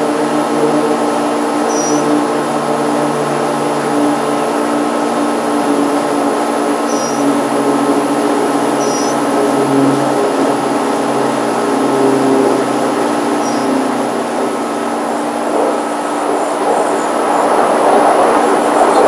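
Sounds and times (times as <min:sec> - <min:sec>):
mechanical drone: 0:00.0 - 0:19.0.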